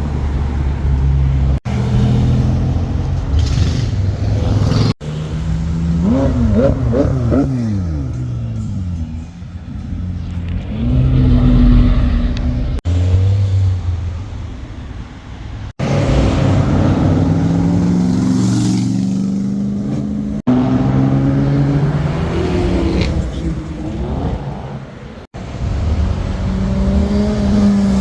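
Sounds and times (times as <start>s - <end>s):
car engines revving and passing: 0.0s - 14.8s, 15.8s - 28.0s.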